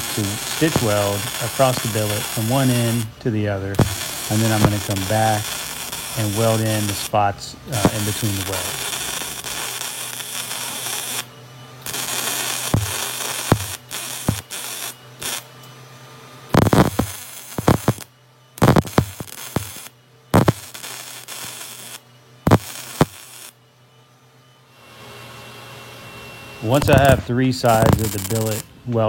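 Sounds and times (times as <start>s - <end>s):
welding arc noise: 0.0s - 15.7s, 16.4s - 23.6s, 26.6s - 29.0s.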